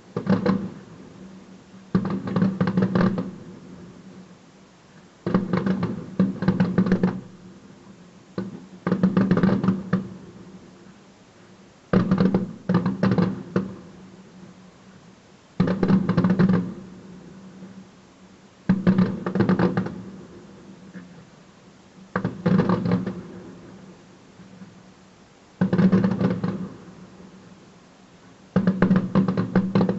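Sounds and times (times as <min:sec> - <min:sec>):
fireworks bangs and crackles: 0:00.0 - 0:04.3, 0:05.0 - 0:11.0, 0:11.9 - 0:14.6, 0:15.6 - 0:17.8, 0:18.7 - 0:21.4, 0:22.0 - 0:24.8, 0:25.6 - 0:27.6, 0:28.5 - 0:29.9.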